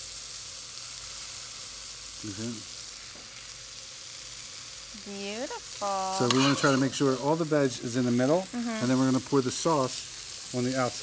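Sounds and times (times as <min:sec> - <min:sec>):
fish sizzling in grill pan: 0:00.0 - 0:11.0.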